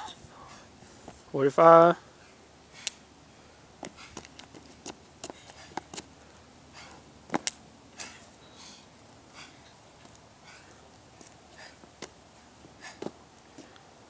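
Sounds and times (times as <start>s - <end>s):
man breathing and sniffing: 0.0s - 1.3s, 2.1s - 7.2s, 7.9s - 14.0s.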